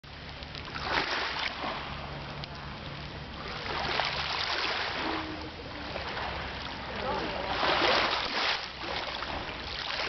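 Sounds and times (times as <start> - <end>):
low steady hum: 0.0 - 10.0
sea waves washing on shore: 0.1 - 10.0.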